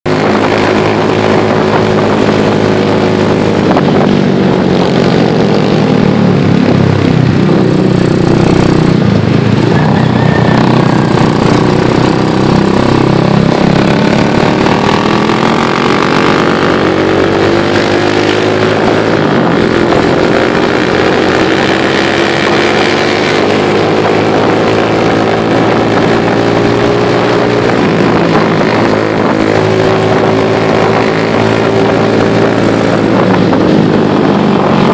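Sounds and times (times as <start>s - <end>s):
motorcycle engine revving: 0.0s - 34.9s
wind on microphone: 0.1s - 34.9s.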